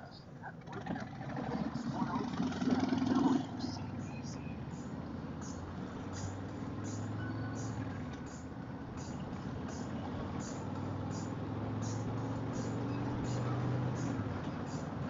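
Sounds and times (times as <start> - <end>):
wind and road noise: 0.0 - 15.0
motorcycle engine accelerating: 0.6 - 15.0.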